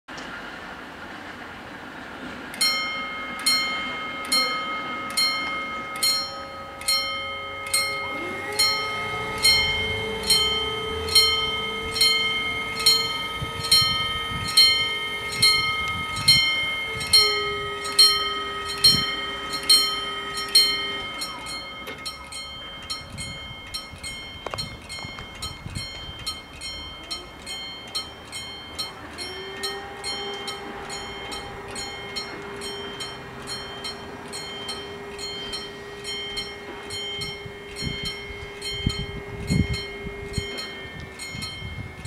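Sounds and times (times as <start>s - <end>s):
barrier motor hum: 1.9s - 42.0s
level crossing bells ringing: 2.6s - 42.0s.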